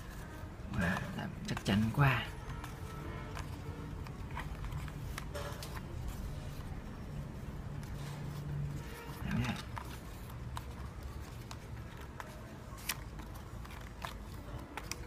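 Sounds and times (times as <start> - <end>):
packaging clicks and scrapes: 0.0 - 15.0.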